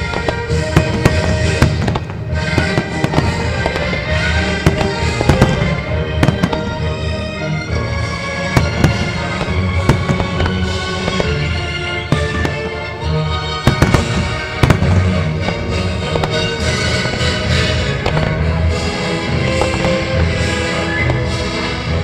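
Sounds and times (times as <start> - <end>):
firework shells bursting: 0.0 - 21.6
music playing: 0.0 - 22.0.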